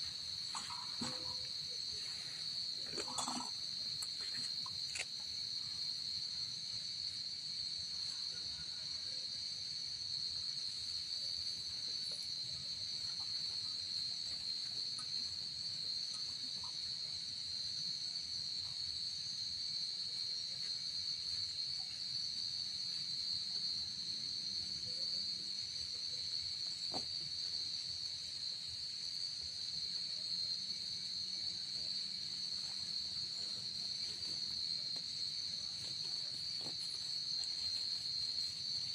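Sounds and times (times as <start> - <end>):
insects chorus drone: 0.0 - 38.9.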